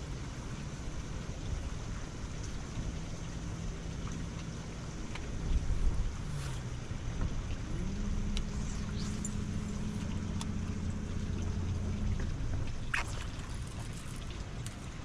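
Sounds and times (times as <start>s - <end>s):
boat motor humming: 0.0s - 15.0s
low wind: 0.0s - 15.0s
water noise: 0.0s - 15.0s.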